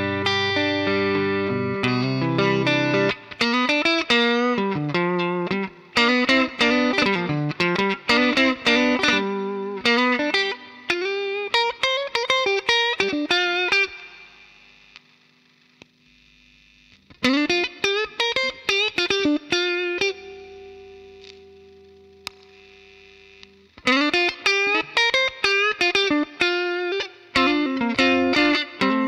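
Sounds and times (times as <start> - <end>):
distorted electric guitar notes: 0.0 - 15.4, 17.0 - 29.0.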